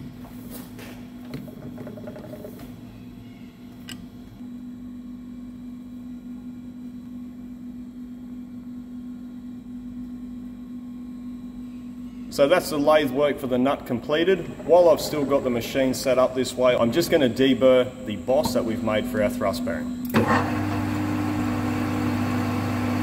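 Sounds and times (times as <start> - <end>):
low hum of machinery: 0.0 - 23.0.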